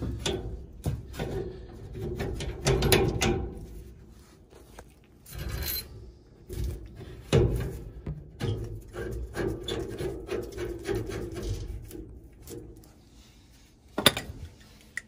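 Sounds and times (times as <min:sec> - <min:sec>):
hand tools clicking and scraping: 0:00.0 - 0:13.1.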